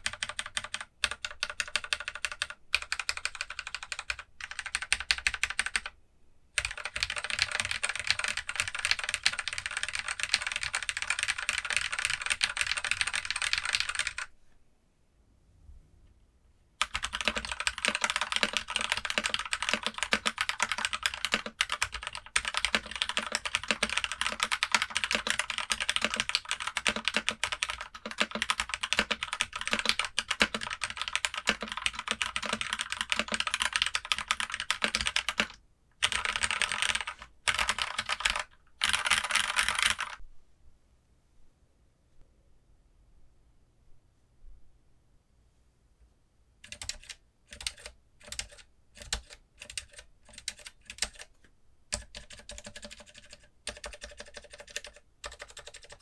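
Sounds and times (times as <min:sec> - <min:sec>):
keyboard keys pressed rapidly: 0:00.0 - 0:06.0, 0:06.6 - 0:14.3, 0:16.8 - 0:40.2, 0:46.6 - 0:51.3, 0:51.9 - 0:56.0
keyboard typing: 0:00.0 - 0:06.0, 0:06.6 - 0:14.3, 0:16.8 - 0:40.2, 0:46.6 - 0:56.0.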